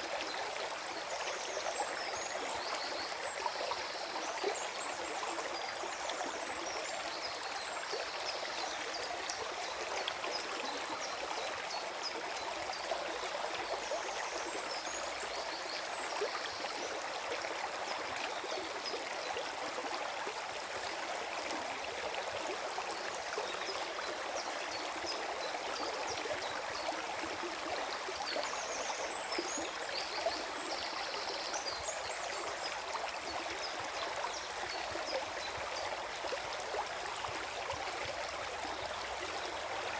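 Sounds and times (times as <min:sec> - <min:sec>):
stream flowing and gurgling: 0:00.0 - 0:39.9.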